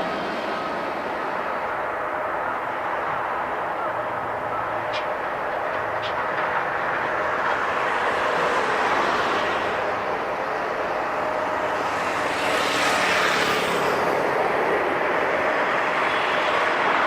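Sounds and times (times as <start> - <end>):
faint engine whine: 0.0 - 17.0
jet engines rushing: 0.0 - 17.0.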